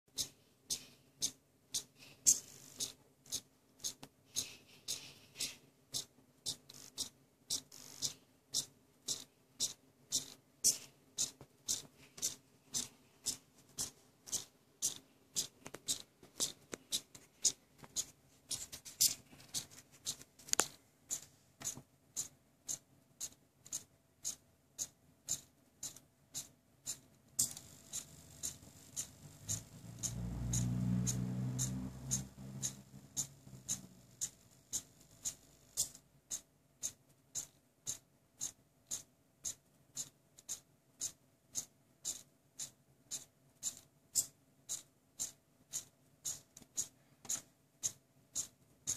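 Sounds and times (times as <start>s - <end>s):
servos ticking: 0.1s - 48.9s.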